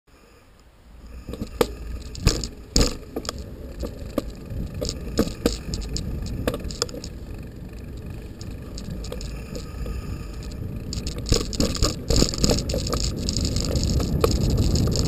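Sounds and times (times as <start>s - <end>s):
bicycle rumbling: 0.2s - 15.0s
bicycle rattles and knocks: 1.0s - 15.0s.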